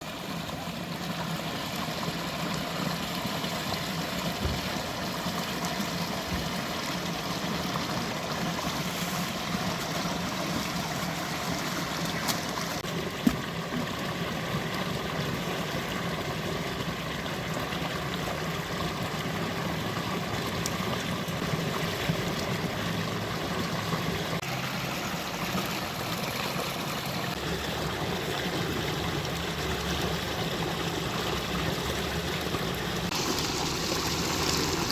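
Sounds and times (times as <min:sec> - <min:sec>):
stream trickling: 0:00.0 - 0:34.9.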